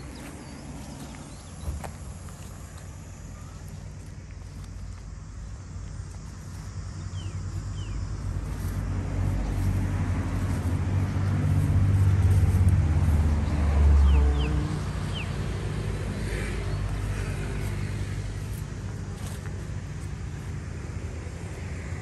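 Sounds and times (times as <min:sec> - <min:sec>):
vehicle engine rumble passing: 0:00.0 - 0:22.0.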